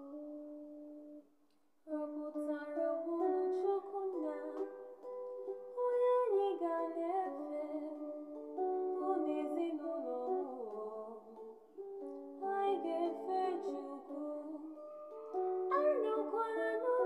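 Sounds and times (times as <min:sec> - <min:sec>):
plucked string accompaniment: 0:00.0 - 0:01.3, 0:01.9 - 0:17.0
woman singing: 0:01.9 - 0:05.0, 0:05.6 - 0:11.6, 0:12.3 - 0:17.0.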